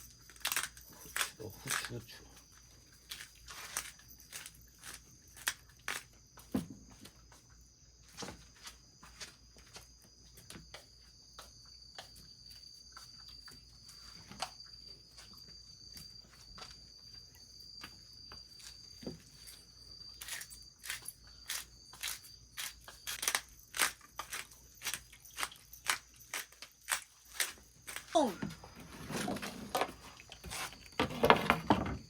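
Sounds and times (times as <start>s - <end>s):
high-pitched insect trill: 0.0s - 32.0s.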